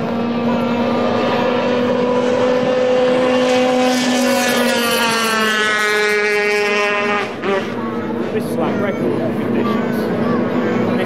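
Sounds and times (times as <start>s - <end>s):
passing boat engine pitch sliding: 0.0s - 11.0s
racing boat engines droning: 0.0s - 11.0s.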